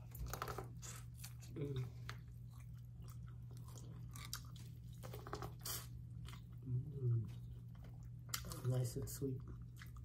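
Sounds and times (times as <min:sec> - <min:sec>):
person chewing corn on the cob: 0:00.0 - 0:10.0.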